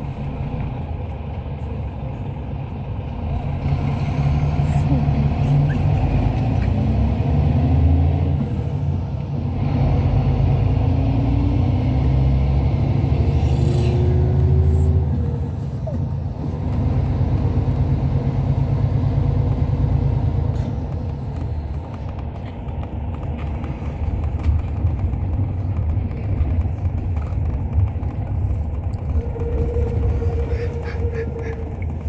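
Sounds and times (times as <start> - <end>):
coach engine and road rumble: 0.0 - 32.0.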